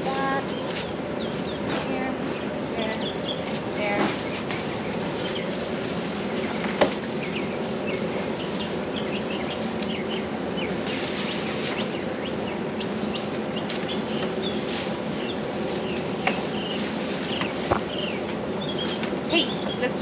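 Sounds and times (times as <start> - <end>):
birds chirping: 0.0 - 20.0
low mechanical hum: 0.0 - 20.0.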